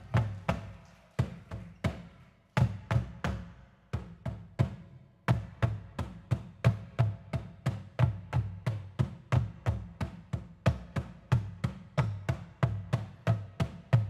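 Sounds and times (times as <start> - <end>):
drum strokes with stick cracks: 0.0 - 14.0.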